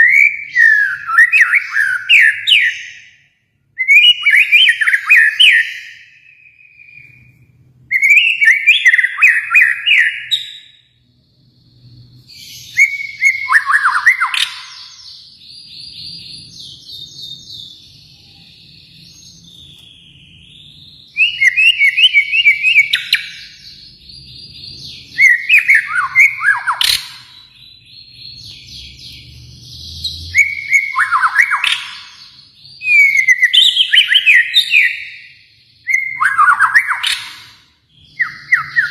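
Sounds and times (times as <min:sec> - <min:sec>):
bird whistling song: 0:00.0 - 0:38.9.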